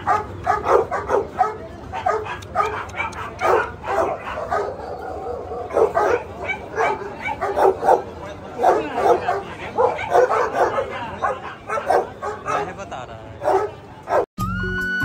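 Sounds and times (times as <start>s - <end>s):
dogs barking and yapping: 0.0s - 14.3s.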